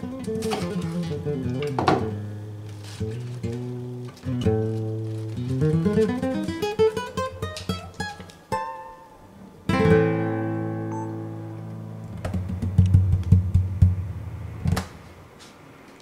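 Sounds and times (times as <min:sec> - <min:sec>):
acoustic guitar music: 0:00.0 - 0:14.8.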